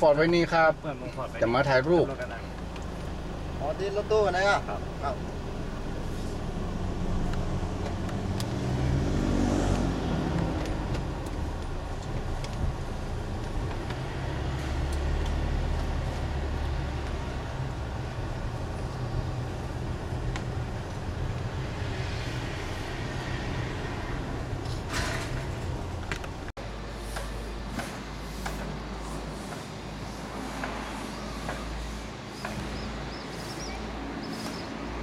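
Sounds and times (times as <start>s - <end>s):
engine and road rumble in car: 1.8s - 31.8s.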